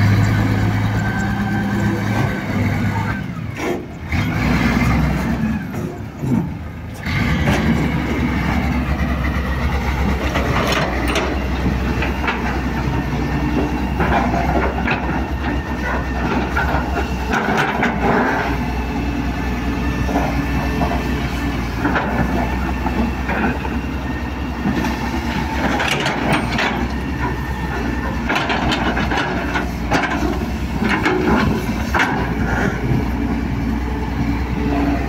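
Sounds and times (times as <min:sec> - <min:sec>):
excavator diesel engine under load: 0:00.0 - 0:35.0.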